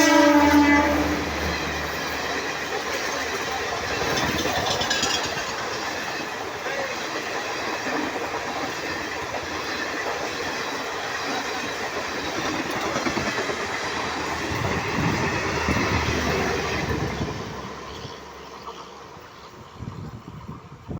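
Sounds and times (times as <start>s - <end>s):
train running on rails: 0.0s - 20.9s.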